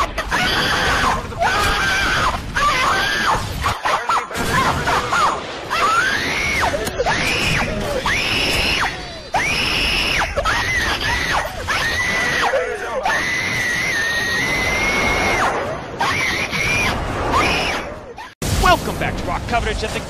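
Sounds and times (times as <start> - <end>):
person screaming shrilly: 0.0 - 17.8.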